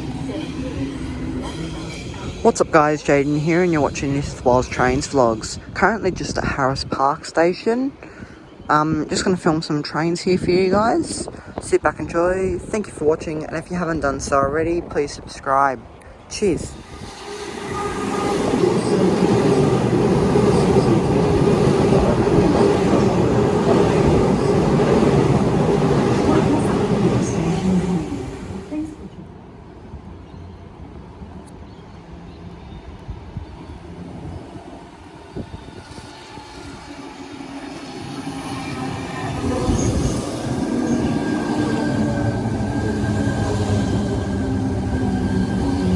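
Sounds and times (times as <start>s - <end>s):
train rumbling past: 0.0s - 13.3s, 16.5s - 30.0s, 32.0s - 45.9s.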